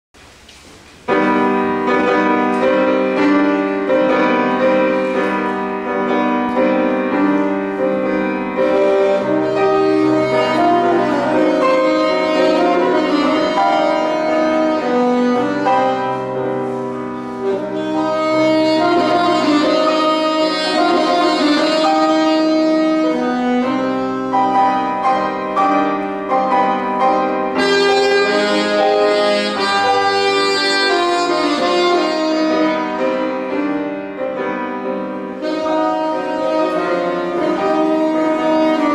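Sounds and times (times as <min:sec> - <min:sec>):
saxophone and piano tango: 0:00.2 - 0:38.9.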